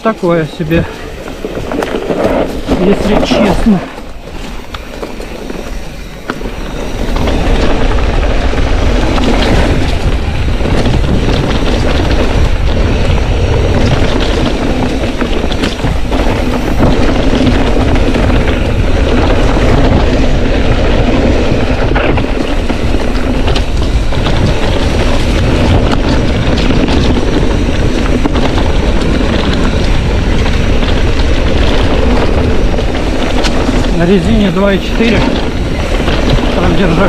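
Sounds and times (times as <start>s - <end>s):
bike tyres clattering over stones: 0.0s - 37.0s
wind buffeting microphone: 0.0s - 37.0s.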